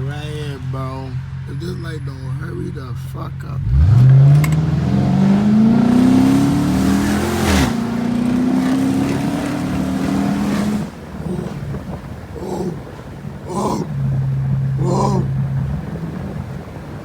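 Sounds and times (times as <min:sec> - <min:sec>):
car exhaust accelerating hard: 0:00.0 - 0:17.0.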